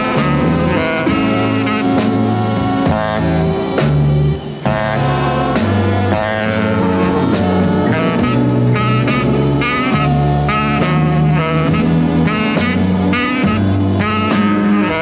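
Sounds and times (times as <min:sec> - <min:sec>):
jazz big band playing blues: 0:00.0 - 0:15.0
tenor saxophone riffs: 0:00.0 - 0:15.0.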